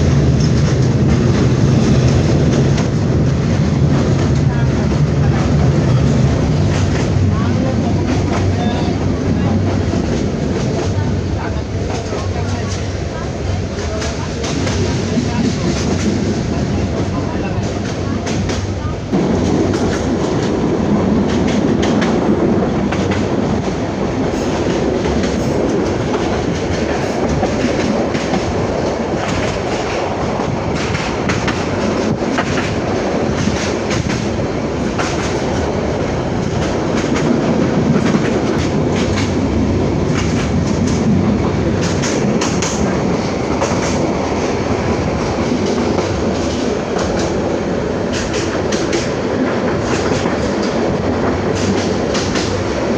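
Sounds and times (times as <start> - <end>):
train wheels clacking on rails: 0.0 - 52.9.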